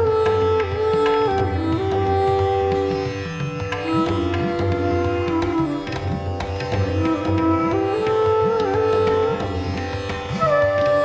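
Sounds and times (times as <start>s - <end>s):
sliding string notes: 0.0s - 11.0s.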